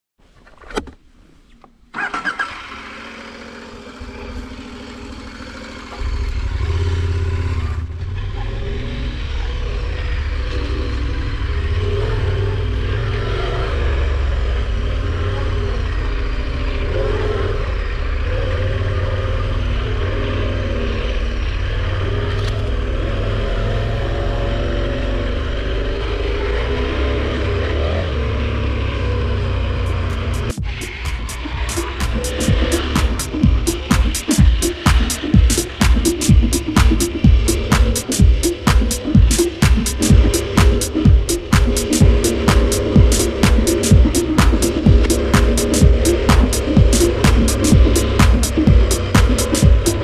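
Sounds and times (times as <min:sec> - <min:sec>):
motorcycle engine starting and running: 0:01.6 - 0:50.0.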